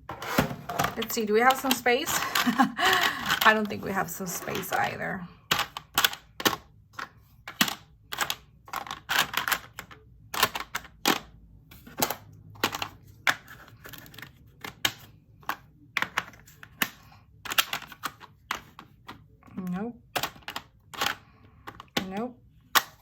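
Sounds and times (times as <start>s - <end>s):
plastic containers clicking: 0.4s - 23.0s.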